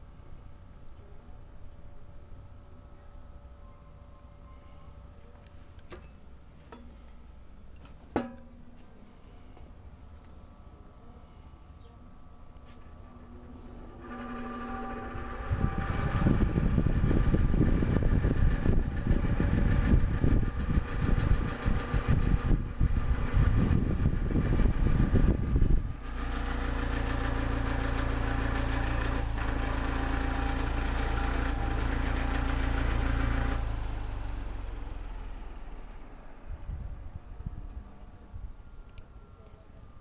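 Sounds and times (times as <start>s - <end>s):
fan airflow buffeting microphone: 0.0s - 3.5s, 4.9s - 40.0s
fan motor hum: 0.0s - 40.0s.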